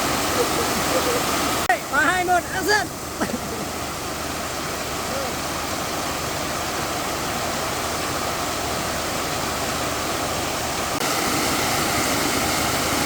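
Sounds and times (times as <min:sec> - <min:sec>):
white noise hiss: 0:00.0 - 0:13.0.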